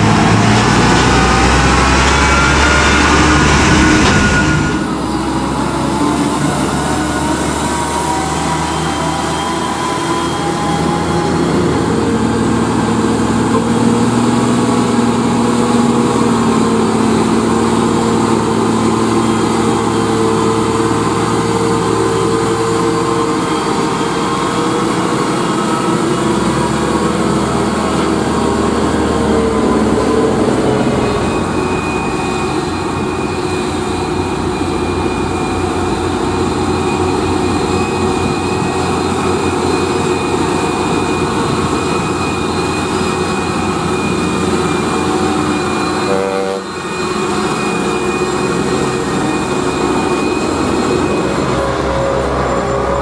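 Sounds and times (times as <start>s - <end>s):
diesel truck engine under load: 0.0s - 53.0s
high whine: 0.0s - 53.0s
second truck engine: 0.0s - 53.0s.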